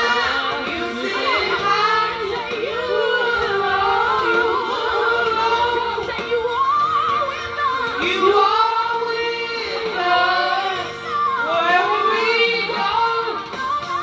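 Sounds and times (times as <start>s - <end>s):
woman singing through microphone: 0.0s - 14.0s.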